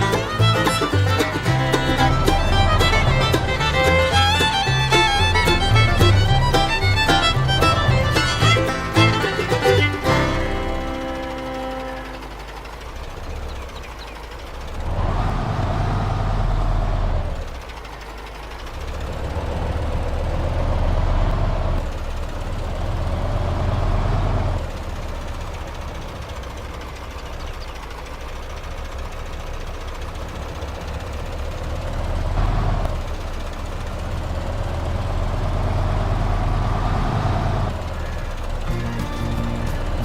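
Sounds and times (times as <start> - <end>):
model machine engine rumble and whine: 0.0 - 40.0.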